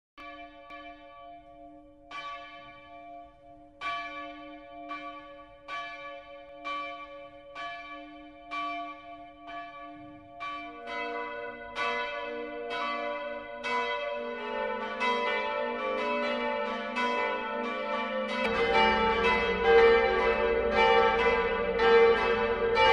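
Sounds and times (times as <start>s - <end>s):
church bells ringing: 0.2s - 22.9s.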